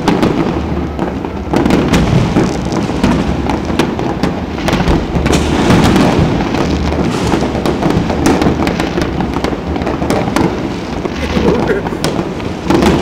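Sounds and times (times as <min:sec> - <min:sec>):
fireworks booming and crackling: 0:00.0 - 0:13.0
sharp firework bangs: 0:00.0 - 0:13.0.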